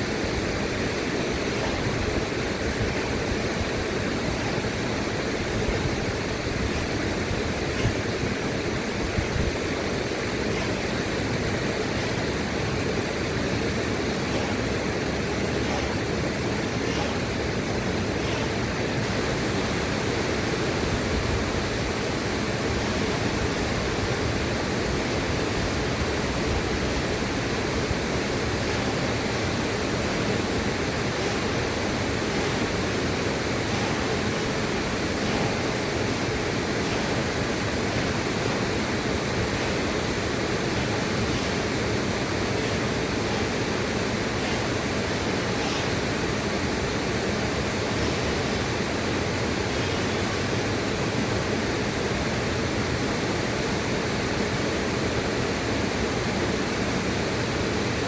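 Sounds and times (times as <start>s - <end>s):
rushing river water: 0.0s - 58.0s.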